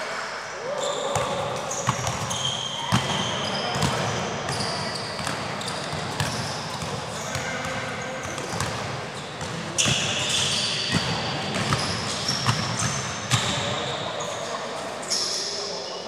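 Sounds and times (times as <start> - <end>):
shoes squeaking on court: 0.8 - 16.0.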